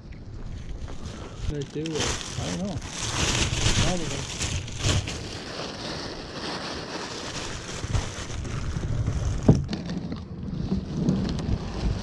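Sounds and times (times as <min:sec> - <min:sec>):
plastic bag rustling: 0:00.6 - 0:12.0.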